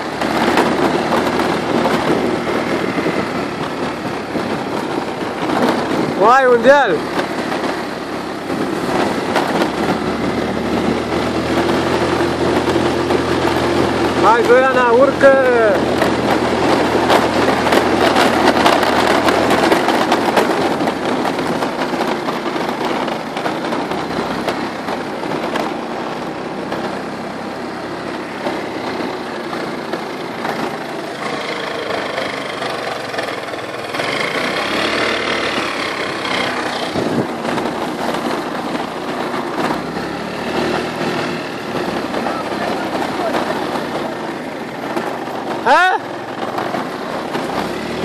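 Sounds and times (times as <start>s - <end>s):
motor scooter engine running: 0.0s - 48.0s
tyres on gravel: 0.0s - 48.0s
wind: 0.0s - 48.0s.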